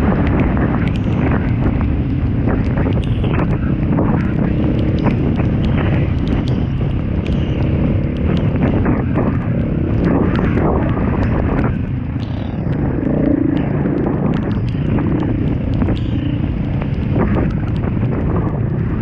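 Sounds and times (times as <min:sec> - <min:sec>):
motorcycle engine running: 0:00.0 - 0:19.0
sharp clicks and knocks: 0:00.0 - 0:19.0
wind noise on microphone: 0:00.0 - 0:19.0.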